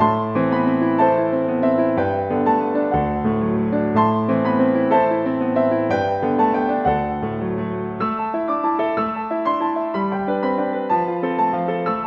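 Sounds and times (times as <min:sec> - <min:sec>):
lo-fi jazz piano music: 0:00.0 - 0:12.0.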